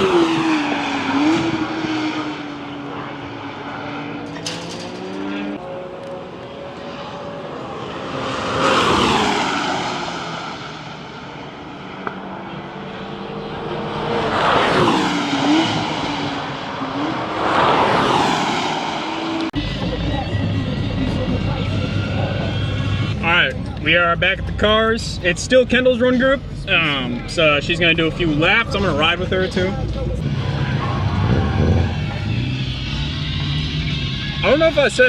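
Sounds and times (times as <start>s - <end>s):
race cars passing by: 0.0s - 35.0s.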